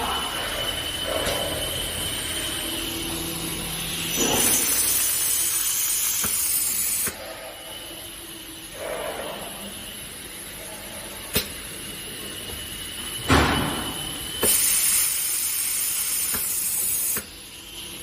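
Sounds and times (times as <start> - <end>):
high-pitched welding hiss: 0.0 - 18.0.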